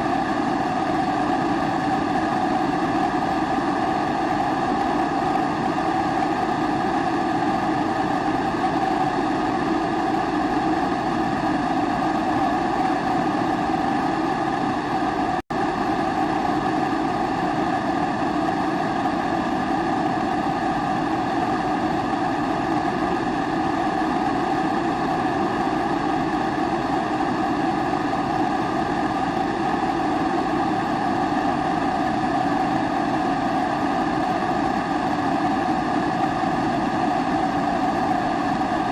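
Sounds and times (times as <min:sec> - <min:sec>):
pressure stove flame roaring: 0:00.0 - 0:38.9.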